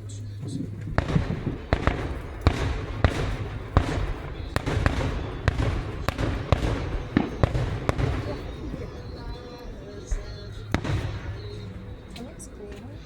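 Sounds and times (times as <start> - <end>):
distant fireworks bangs and crackles: 0.0 - 13.0
rumble of firework bursts: 0.0 - 13.0.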